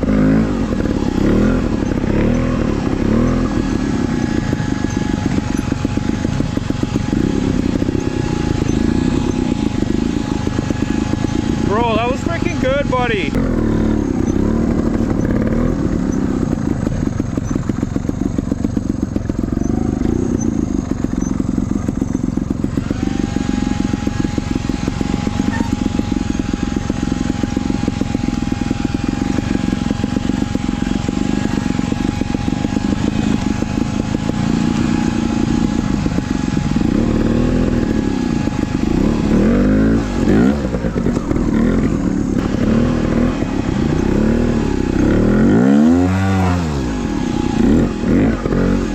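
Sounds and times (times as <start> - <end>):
dirtbike engine with throttle blips: 0.0 - 48.9.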